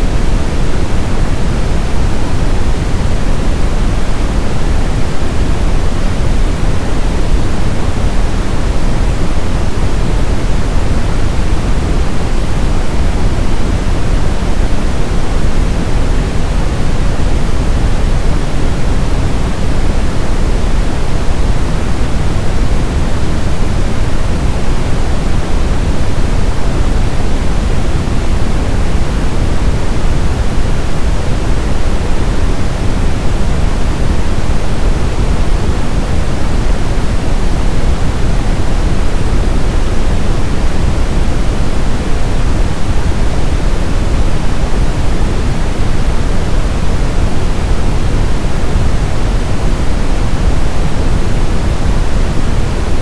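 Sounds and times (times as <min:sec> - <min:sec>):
brown noise rush: 0:00.0 - 0:53.0.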